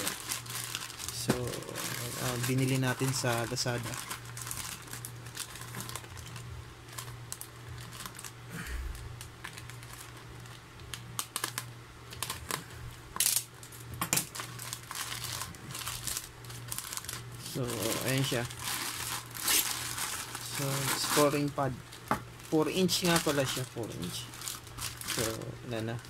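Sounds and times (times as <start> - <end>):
plastic mailer crinkling: 0.0 - 8.4, 9.1 - 26.0
faint low hum: 0.0 - 26.0.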